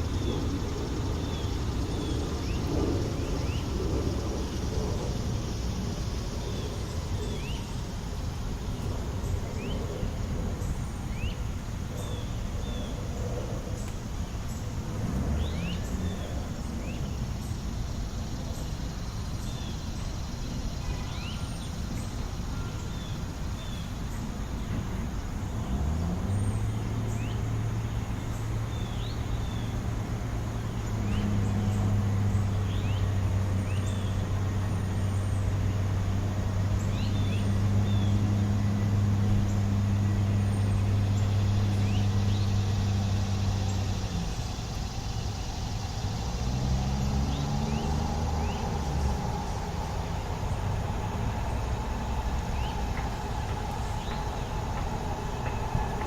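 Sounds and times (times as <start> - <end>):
city traffic hum: 0.0 - 56.0
small birds chirping: 0.0 - 56.0
vehicle engine idling: 0.0 - 56.0.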